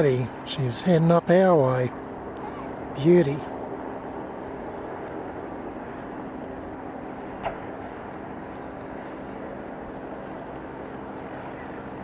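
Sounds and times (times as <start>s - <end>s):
distant jet engines rumbling: 0.0s - 12.0s.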